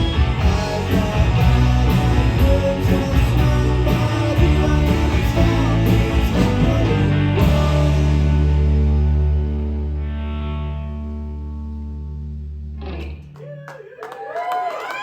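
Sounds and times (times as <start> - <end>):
electric guitars: 0.0 - 13.7.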